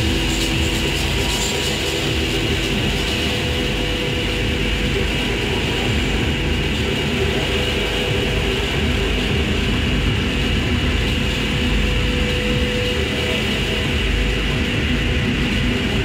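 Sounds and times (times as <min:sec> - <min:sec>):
rumbling electronic drone: 0:00.0 - 0:16.0
steady hiss: 0:00.0 - 0:16.0.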